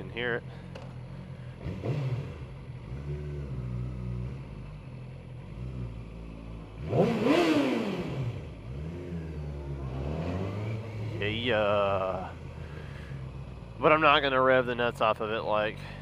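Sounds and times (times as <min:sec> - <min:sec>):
motorcycle engine idling: 0:00.0 - 0:16.0
motorcycle engine revving: 0:00.0 - 0:16.0.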